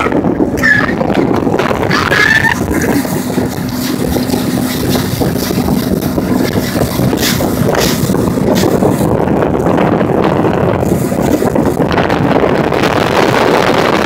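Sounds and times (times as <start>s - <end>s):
motorboat engine hum: 0.0s - 14.0s
wind buffeting microphone: 0.0s - 14.0s.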